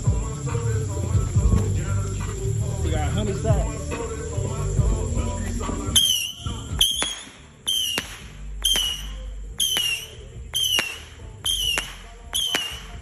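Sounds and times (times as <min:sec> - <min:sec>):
fireworks whistling and cracking: 0:00.0 - 0:13.0.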